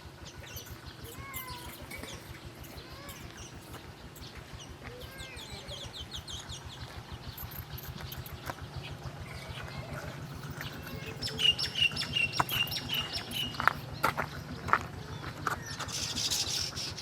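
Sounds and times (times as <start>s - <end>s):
wild birds chirping and calling: 0.0s - 17.0s
steady low rumble: 1.8s - 15.8s.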